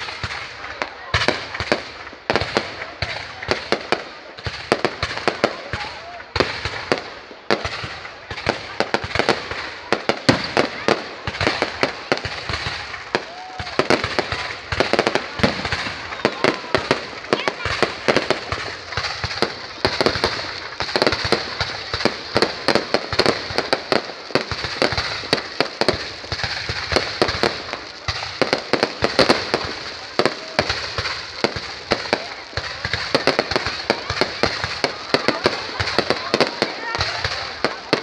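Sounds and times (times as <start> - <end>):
continuous firecracker crackle: 0.0 - 38.0
fireworks cracking and banging: 0.0 - 38.0.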